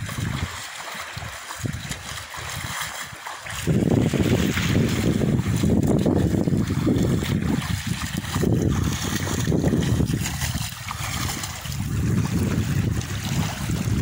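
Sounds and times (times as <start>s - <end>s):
water splashing from swimming strokes: 0.0s - 14.0s
wind buffeting microphone: 0.0s - 14.0s.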